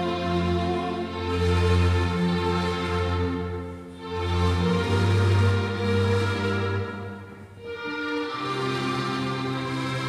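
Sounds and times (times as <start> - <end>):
instrumental music of held notes: 0.0 - 10.0.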